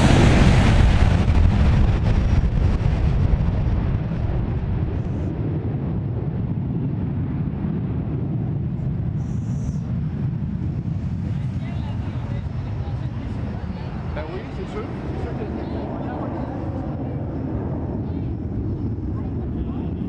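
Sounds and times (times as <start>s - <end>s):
jet engines at takeoff thrust: 0.0s - 20.0s
wind buffeting microphone: 0.0s - 20.0s.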